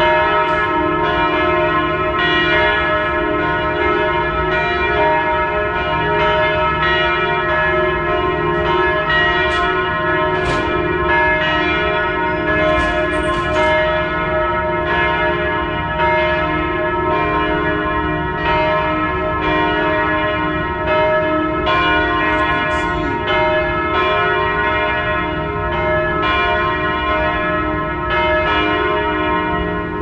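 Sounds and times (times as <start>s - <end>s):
church bells pealing: 0.0s - 30.0s.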